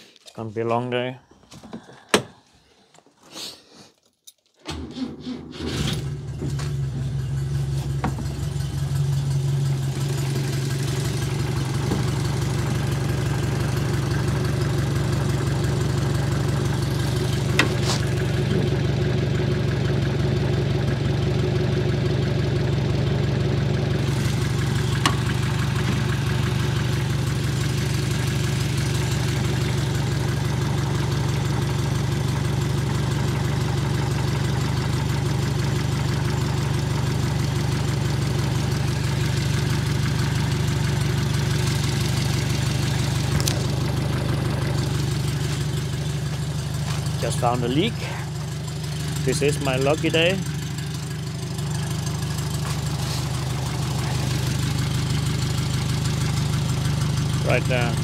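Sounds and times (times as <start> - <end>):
car engine starting and idling: 4.6 - 58.0.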